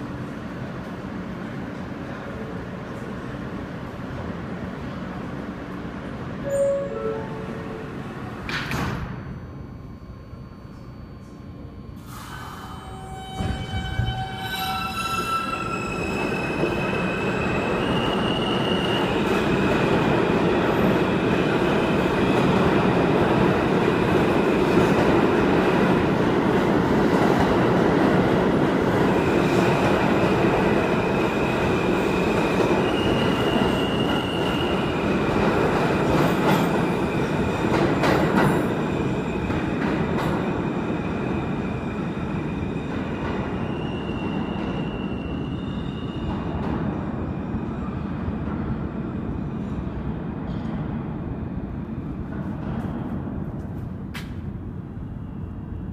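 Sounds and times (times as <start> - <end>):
subway train wheels rumbling on rail: 0.0 - 55.9.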